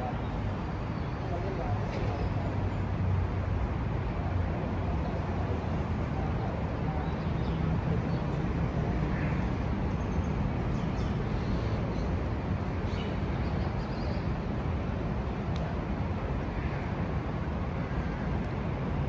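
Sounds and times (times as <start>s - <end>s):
city background rumble: 0.0s - 19.0s.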